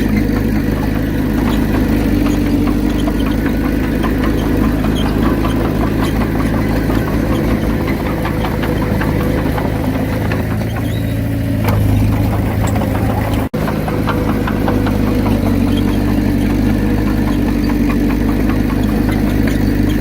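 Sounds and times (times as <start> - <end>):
bulldozer diesel engine rumbling: 0.0 - 20.0.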